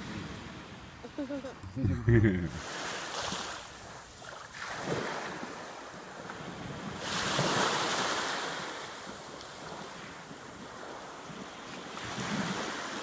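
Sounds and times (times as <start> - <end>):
surf washing onto beach: 2.0 - 13.0.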